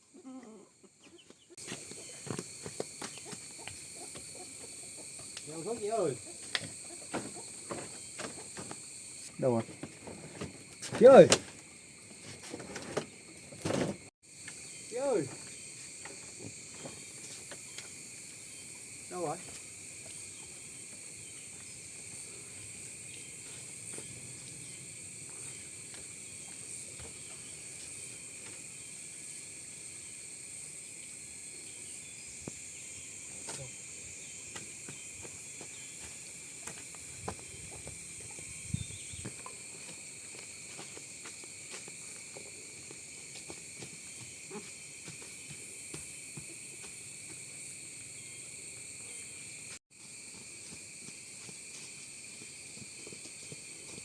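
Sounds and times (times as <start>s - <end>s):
insect chorus chirring: 0.0s - 54.0s.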